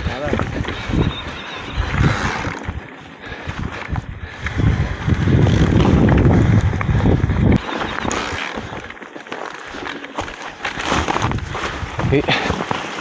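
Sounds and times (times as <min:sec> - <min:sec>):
wind buffeting microphone: 0:00.0 - 0:08.9, 0:10.8 - 0:12.6
bike tyres rolling over ground: 0:00.0 - 0:13.0.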